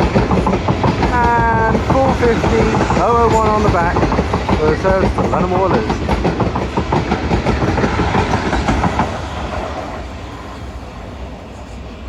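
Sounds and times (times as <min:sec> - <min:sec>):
train wheels clattering: 0:00.0 - 0:11.8.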